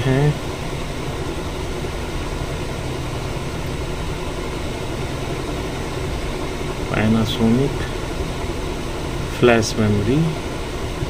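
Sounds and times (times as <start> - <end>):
low machine hum and whir: 0.0 - 11.0.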